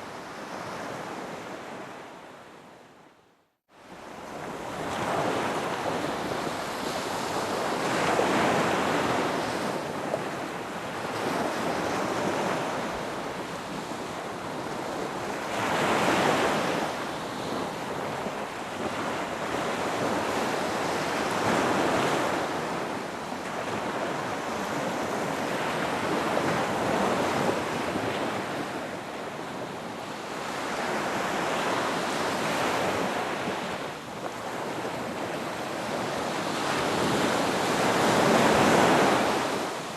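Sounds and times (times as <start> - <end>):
waves breaking on a beach: 3.7 - 39.9.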